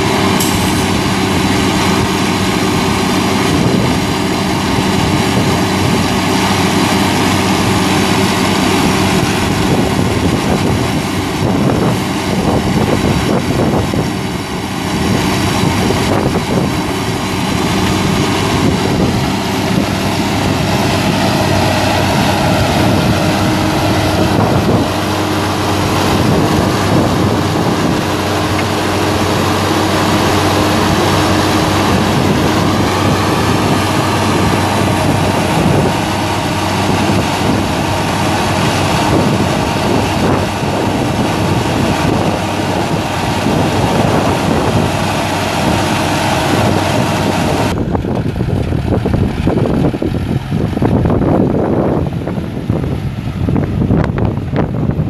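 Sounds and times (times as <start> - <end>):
diesel engine running steadily: 0.0 - 55.0.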